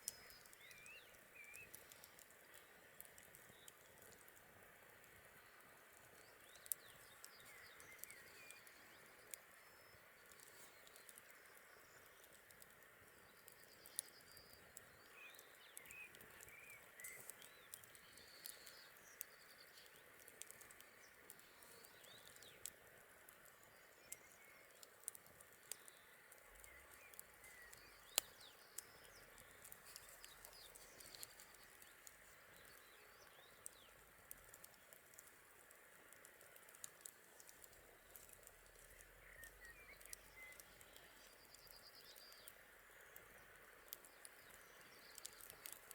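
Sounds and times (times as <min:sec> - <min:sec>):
campfire crackling and popping: 0:00.0 - 0:45.9
small birds chirping: 0:00.0 - 0:45.9.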